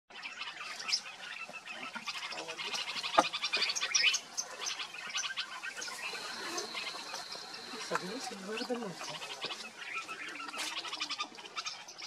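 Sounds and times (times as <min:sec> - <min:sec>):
birds twittering: 0:00.1 - 0:12.0.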